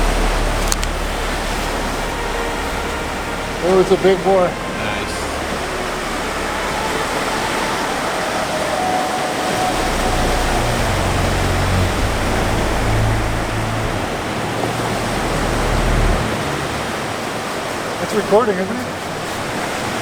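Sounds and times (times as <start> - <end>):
low rumble: 0.0 - 18.1
ocean surf breaking: 0.0 - 20.0.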